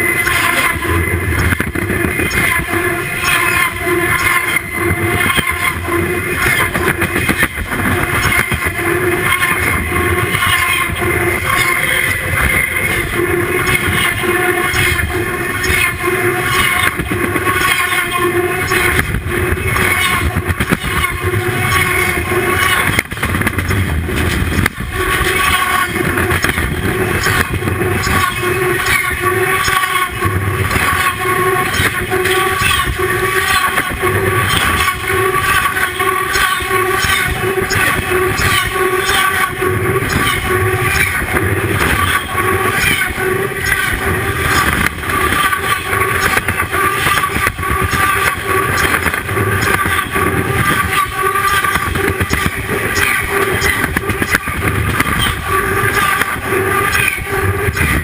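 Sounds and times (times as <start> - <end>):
ringing whining tones: 0.0 - 58.0
train wheels rumbling on rails: 0.0 - 58.0.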